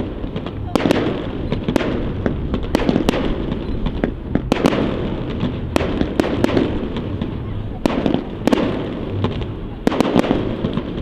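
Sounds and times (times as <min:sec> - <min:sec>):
fireworks bangs: 0:00.0 - 0:11.0
fireworks rumble and crackle: 0:00.0 - 0:11.0.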